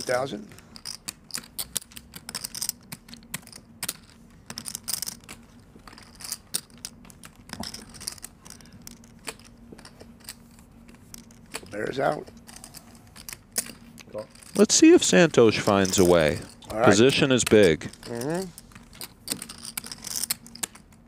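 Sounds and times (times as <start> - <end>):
poker chips clicking: 0.0 - 11.7, 12.4 - 21.0.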